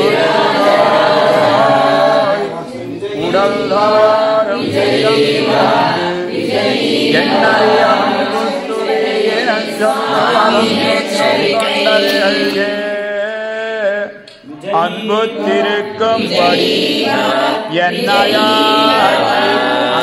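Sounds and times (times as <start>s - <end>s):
voices chanting a hymn: 0.0s - 20.0s.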